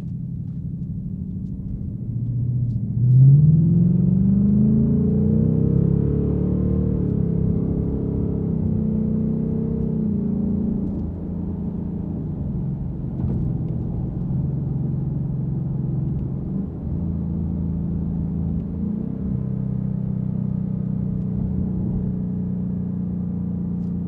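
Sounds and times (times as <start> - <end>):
car engine at steady cruise: 0.0 - 24.0.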